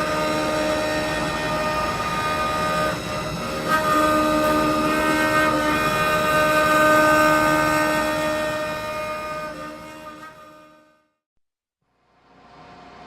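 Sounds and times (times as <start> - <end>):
lathe whining: 0.0 - 10.7.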